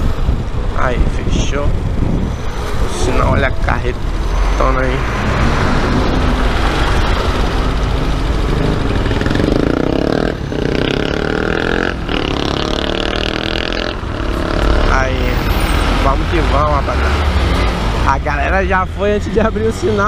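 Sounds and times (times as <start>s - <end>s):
motorcycle engine: 0.0s - 19.4s
engine drone gliding in pitch: 0.0s - 19.5s
road and wind noise: 0.0s - 20.0s.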